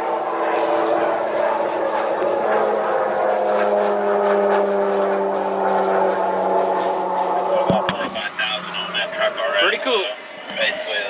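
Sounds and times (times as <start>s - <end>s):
propeller airplane engine droning: 0.0s - 11.0s.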